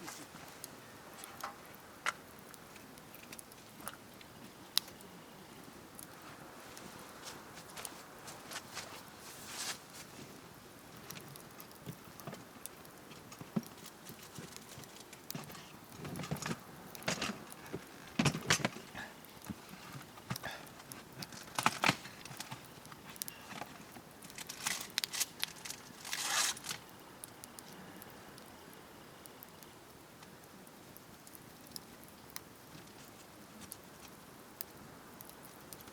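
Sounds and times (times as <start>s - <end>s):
campfire crackling: 0.0s - 35.9s.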